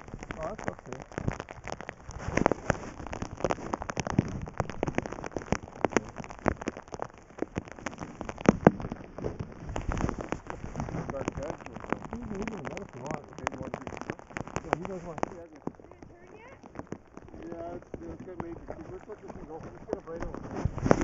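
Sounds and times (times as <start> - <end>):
steady water wash: 0.0 - 21.0
water splashes and drips: 0.0 - 21.0.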